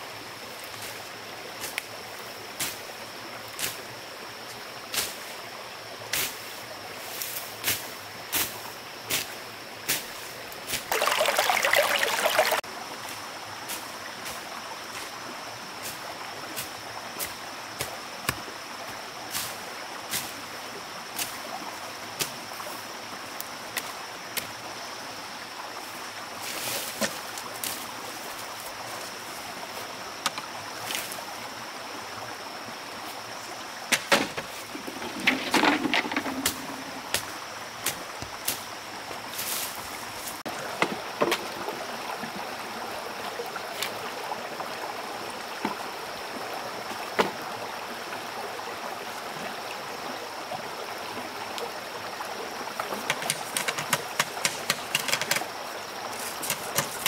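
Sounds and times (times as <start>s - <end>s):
running stream: 0.0s - 57.0s.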